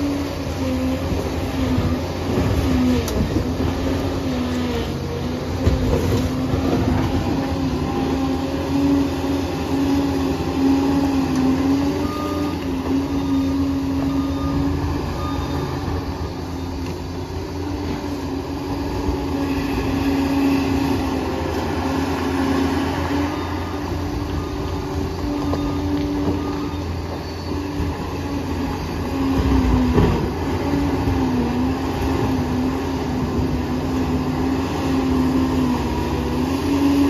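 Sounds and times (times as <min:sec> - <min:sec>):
bulldozer diesel engine: 0:00.0 - 0:37.0
engine whine: 0:00.0 - 0:37.0.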